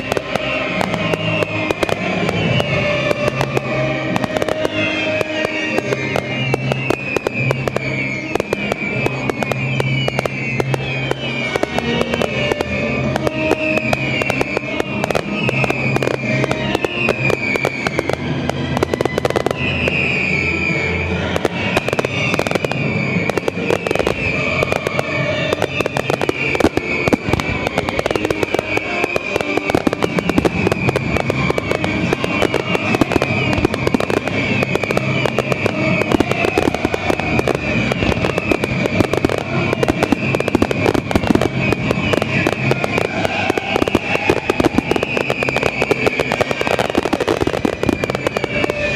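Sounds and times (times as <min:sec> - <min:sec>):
fireworks bangs and crackling: 0:00.0 - 0:48.9
music playing: 0:00.0 - 0:48.9.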